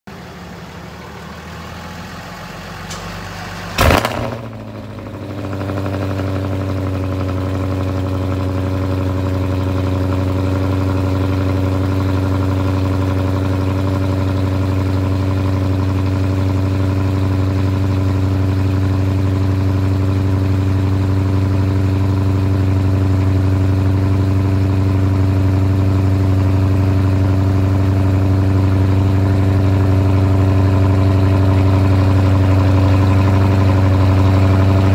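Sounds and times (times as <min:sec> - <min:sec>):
car engine starting and idling: 0:00.1 - 0:34.9.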